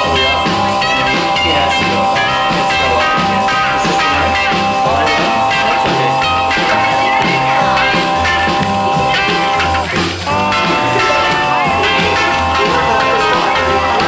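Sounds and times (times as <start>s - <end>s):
background music with bass line: 0.0s - 14.0s.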